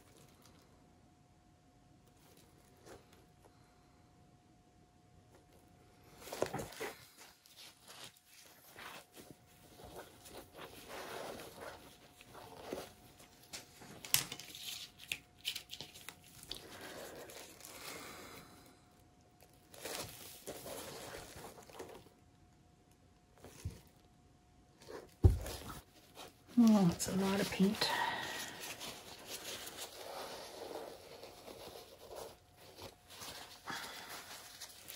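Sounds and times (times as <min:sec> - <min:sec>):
rustling and crinkling: 0:00.0 - 0:00.8, 0:01.9 - 0:03.9, 0:05.2 - 0:34.9
faint steady hum: 0:00.0 - 0:34.9.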